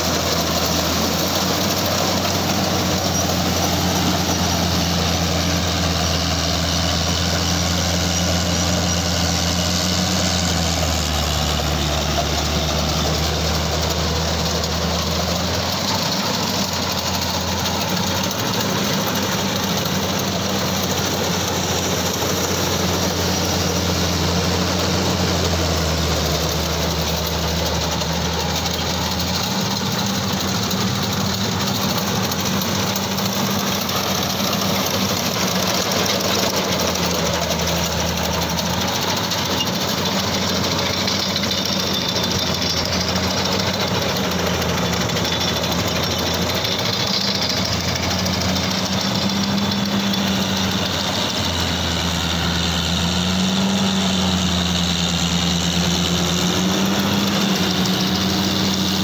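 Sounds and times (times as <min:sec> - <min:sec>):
combine harvester engine drone: 0:00.0 - 0:59.0
threshing machinery noise: 0:00.0 - 0:59.0.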